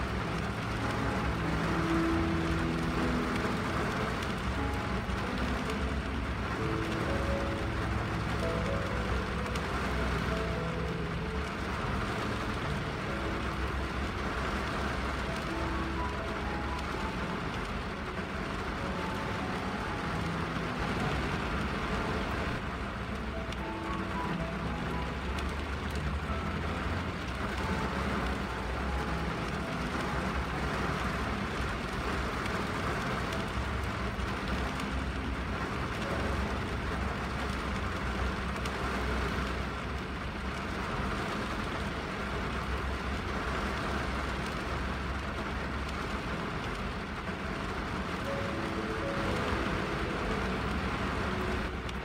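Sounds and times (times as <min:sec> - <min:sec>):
melody notes: 0:00.0 - 0:38.6, 0:46.4 - 0:52.0
rain on car windshield: 0:00.0 - 0:52.0.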